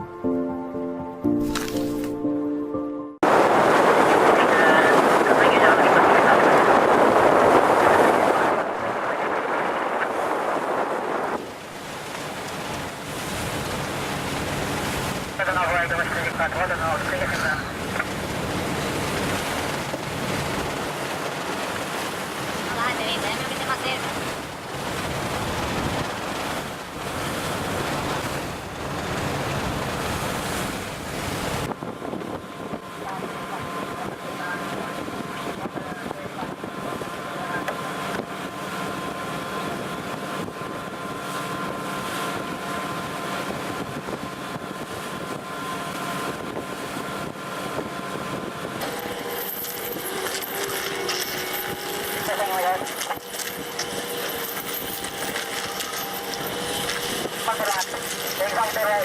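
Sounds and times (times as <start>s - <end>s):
wind and sea rushing: 3.2s - 59.0s.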